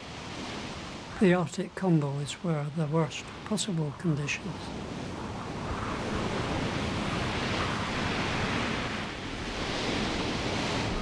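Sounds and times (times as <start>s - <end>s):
waves surging and breaking: 0.0s - 11.0s.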